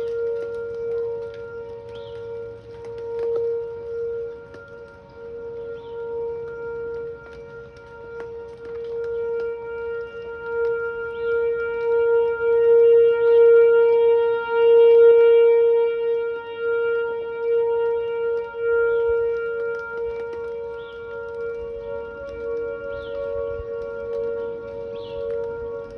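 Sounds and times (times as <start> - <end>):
electronic siren steady tone: 0.0 - 25.9.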